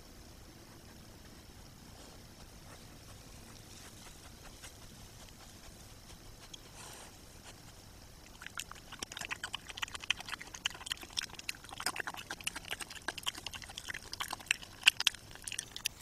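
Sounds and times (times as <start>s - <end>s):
badger crunching dry food: 2.7s - 16.0s.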